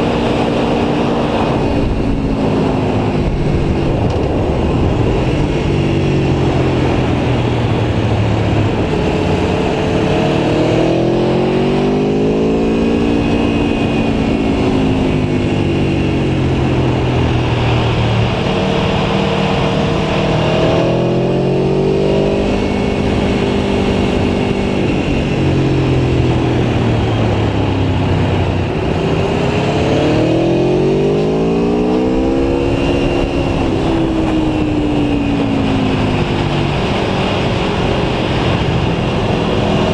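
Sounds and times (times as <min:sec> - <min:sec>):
motorcycle engine revving: 0:00.0 - 0:39.9
steady rush of noise: 0:00.0 - 0:39.9.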